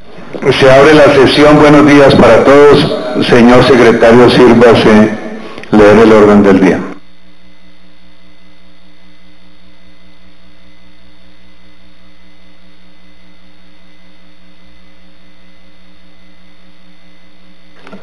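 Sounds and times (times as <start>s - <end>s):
electrical hum with tones: 0.0s - 18.0s.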